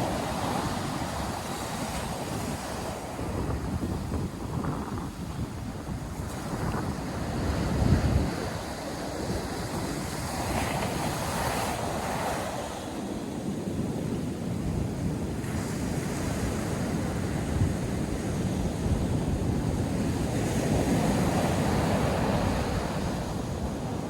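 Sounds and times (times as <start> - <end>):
waves breaking on sandy beach: 0.0 - 24.0
wind buffeting microphone: 0.0 - 24.0.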